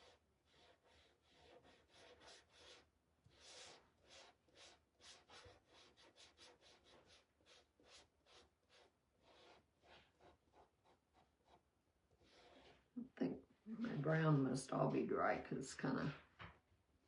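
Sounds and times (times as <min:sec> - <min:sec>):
paintbrush strokes: 0:00.0 - 0:16.4.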